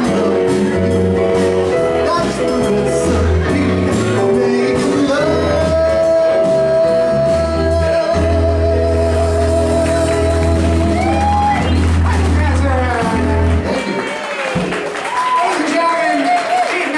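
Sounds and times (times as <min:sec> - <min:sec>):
man singing: 0:00.0 - 0:13.8
live band playing: 0:00.0 - 0:16.9.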